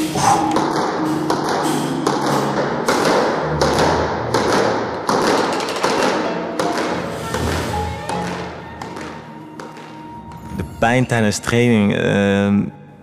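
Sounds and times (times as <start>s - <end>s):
footsteps on wooden floor: 0.3s - 10.8s.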